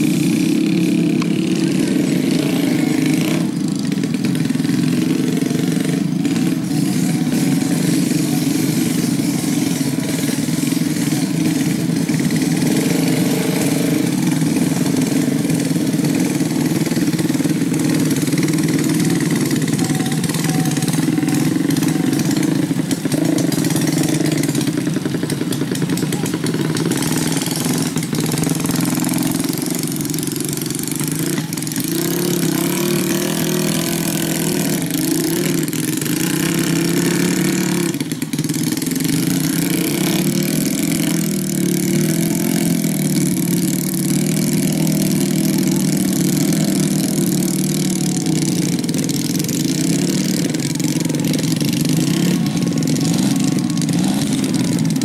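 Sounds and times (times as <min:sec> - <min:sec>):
motorcycle engines running: 0:00.0 - 0:55.0.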